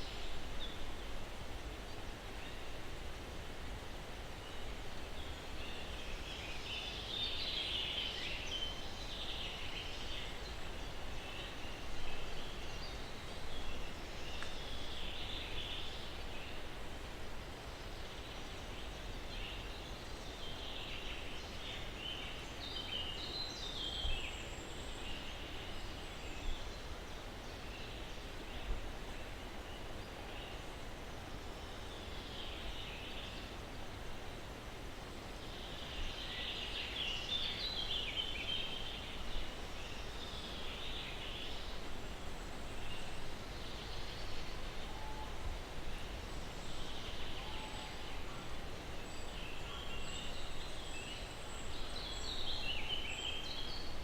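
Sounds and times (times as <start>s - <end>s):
breeze in trees: 0.0s - 54.0s.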